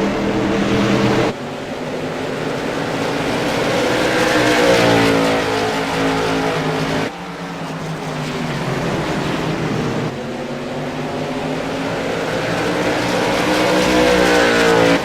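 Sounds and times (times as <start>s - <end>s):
race car engines: 0.0s - 15.0s
race car passing by: 0.0s - 15.0s.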